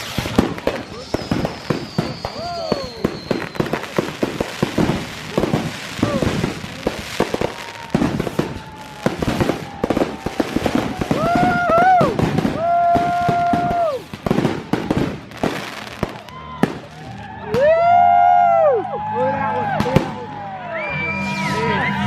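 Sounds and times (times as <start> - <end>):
fireworks bangs and crackles: 0.0 - 18.8, 19.6 - 20.6.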